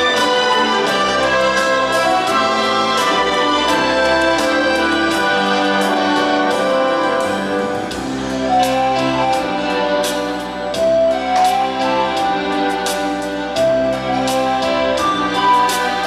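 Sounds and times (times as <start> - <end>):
instrumental music with chords: 0.0 - 16.0.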